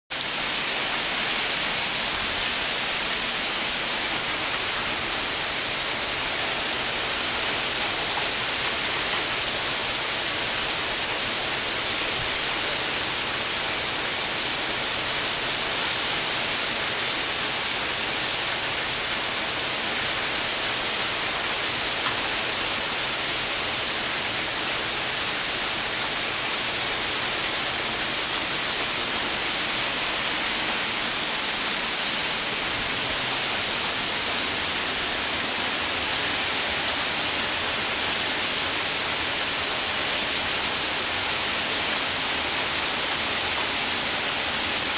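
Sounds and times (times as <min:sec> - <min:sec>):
heavy rain falling: 0:00.1 - 0:44.9.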